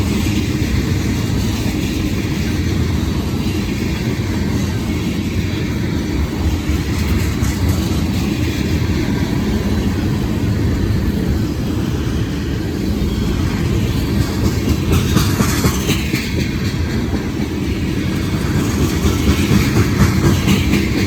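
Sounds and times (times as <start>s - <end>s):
freight train rumbling past: 0.0s - 21.0s
train wheels clicking on rail joints: 0.0s - 21.0s.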